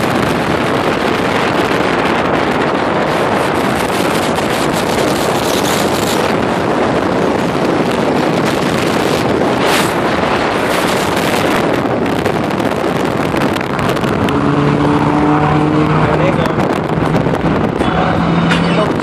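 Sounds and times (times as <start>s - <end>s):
car road noise: 0.0s - 19.0s
wind rushing: 0.0s - 19.0s.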